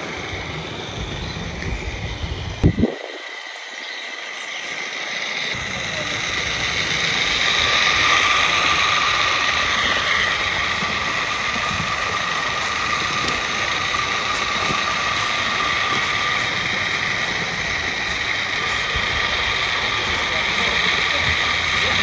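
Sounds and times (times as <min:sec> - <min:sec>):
model steam locomotive running: 0:00.0 - 0:22.0
steady steam hiss: 0:00.0 - 0:22.0.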